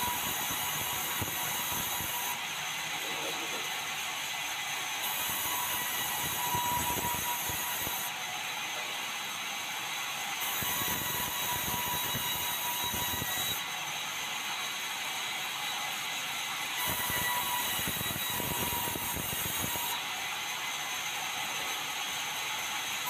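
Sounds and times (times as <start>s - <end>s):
band saw running: 0.0s - 23.0s
saw cutting through wood: 0.0s - 23.0s.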